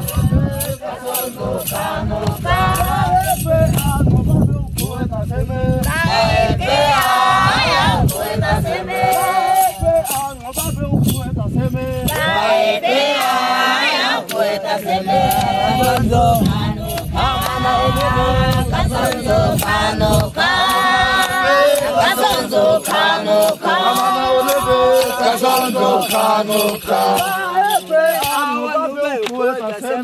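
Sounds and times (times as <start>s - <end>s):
sharp percussive beats: 0.0s - 29.9s
group chanting and singing: 0.0s - 30.0s.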